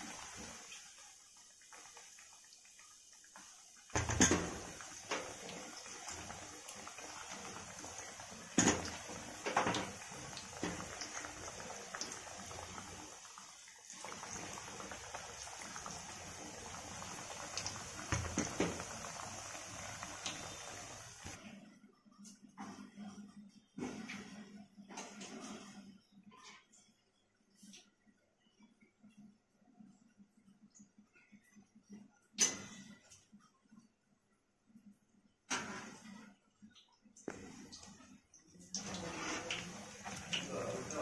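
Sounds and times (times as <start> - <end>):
deep-frying sizzle and bubbling: 0.0 - 41.0.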